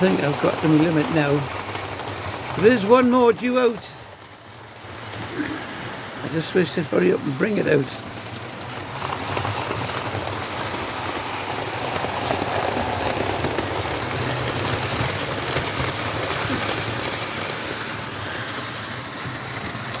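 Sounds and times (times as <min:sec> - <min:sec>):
model train wheels rattling on rails: 0:00.0 - 0:20.0.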